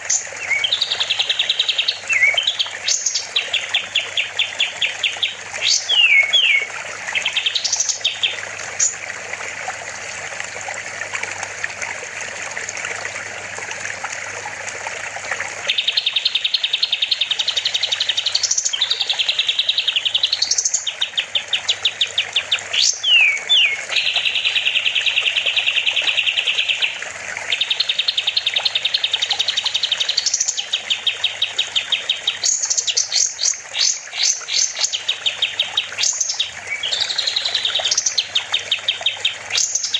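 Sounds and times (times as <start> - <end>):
songbird singing: 0.0 - 9.0, 15.7 - 39.9
running water hiss: 0.0 - 31.0, 31.7 - 39.9.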